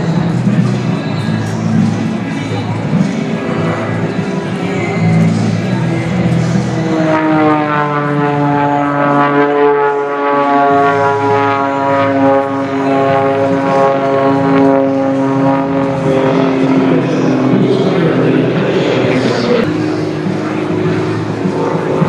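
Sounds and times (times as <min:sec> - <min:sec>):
propeller airplane flying past: 0:00.0 - 0:22.0.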